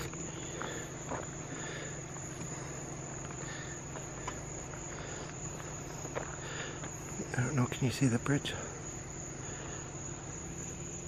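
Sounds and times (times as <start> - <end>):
insects trilling: 0.0 - 11.0
low steady hum: 0.0 - 11.0.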